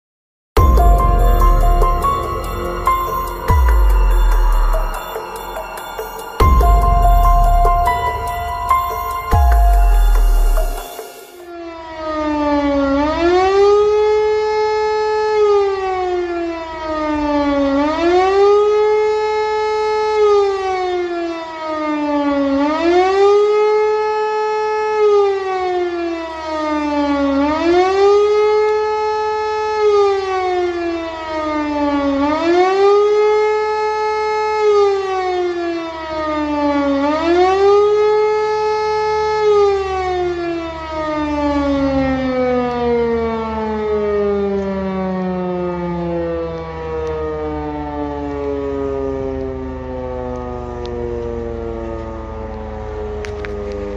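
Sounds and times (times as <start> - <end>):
siren rising and falling wail: 0.6 - 53.9.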